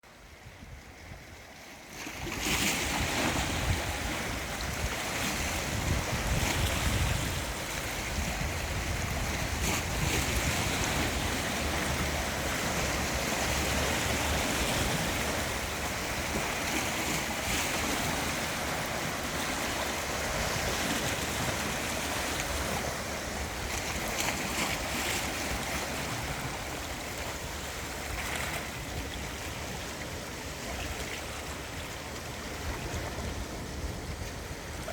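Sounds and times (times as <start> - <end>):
sea waves washing in: 0.1 - 34.9.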